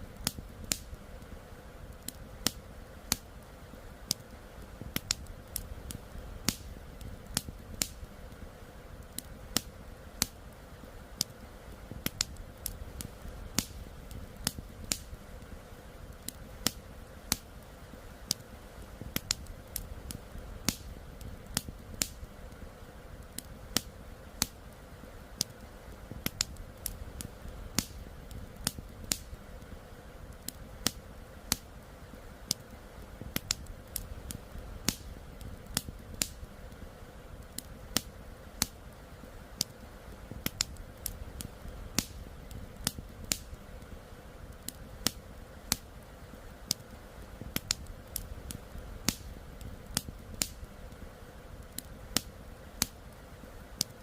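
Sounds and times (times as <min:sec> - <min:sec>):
steady low rumble: 0:00.0 - 0:53.5
campfire crackling: 0:00.0 - 0:54.0.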